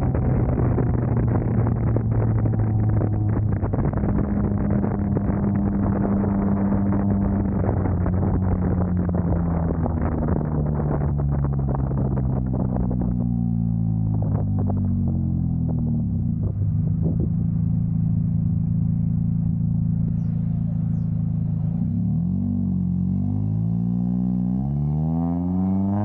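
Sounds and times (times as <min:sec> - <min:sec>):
car engine and exhaust: 0:00.0 - 0:26.0.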